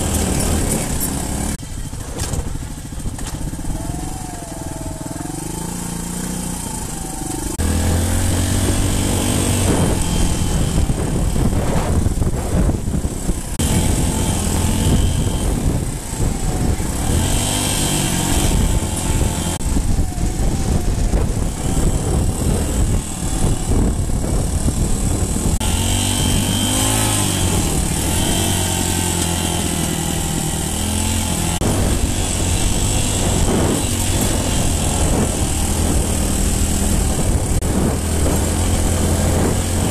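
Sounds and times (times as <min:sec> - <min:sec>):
dirt bike engine revving: 0:00.0 - 0:39.9
wind hiss: 0:05.3 - 0:39.9.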